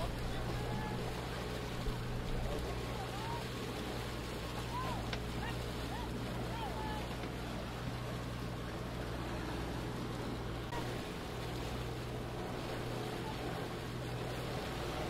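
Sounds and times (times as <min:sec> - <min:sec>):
low hum: 0:00.0 - 0:15.0
water noise: 0:00.0 - 0:15.0
wind: 0:00.0 - 0:15.0.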